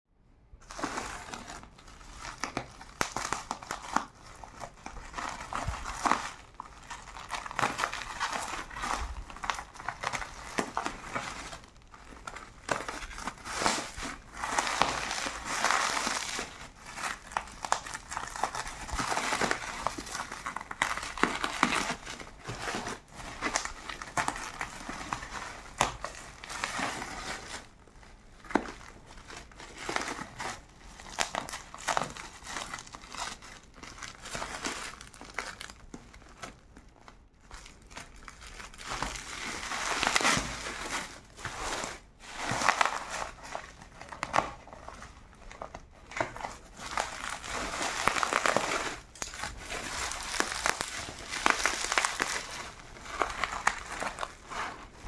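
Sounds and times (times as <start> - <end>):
packaging crinkling: 0.6 - 55.0.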